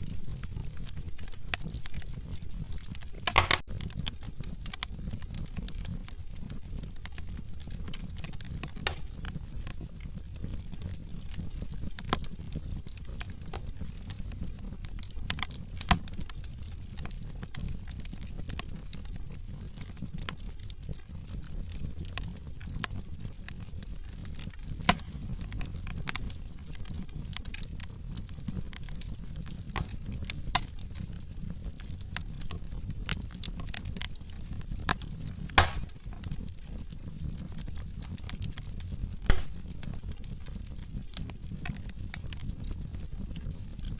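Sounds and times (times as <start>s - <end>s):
fire crackling and popping: 0.0s - 43.9s
low rumble of flame: 0.0s - 43.9s.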